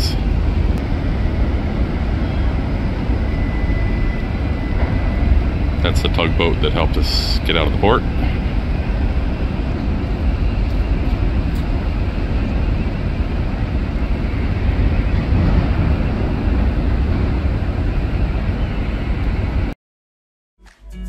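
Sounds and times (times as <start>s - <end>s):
wind rumble on microphone: 0.0s - 19.8s.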